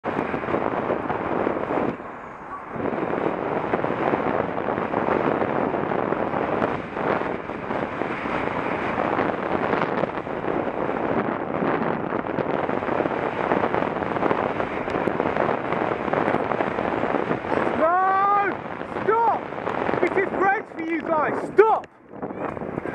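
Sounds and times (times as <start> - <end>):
road noise: 0.0 - 22.9
wind rushing over microphone: 0.0 - 22.9.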